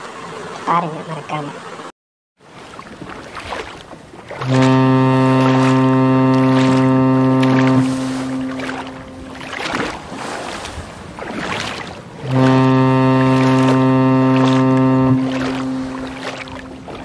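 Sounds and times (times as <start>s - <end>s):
rushing water: 0.0s - 17.0s
outboard engine drone: 2.4s - 17.0s.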